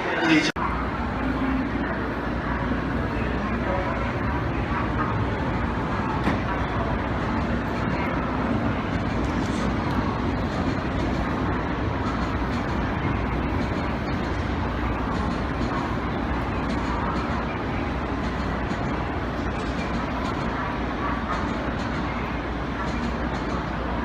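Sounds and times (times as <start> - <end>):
train running: 0.0 - 24.0.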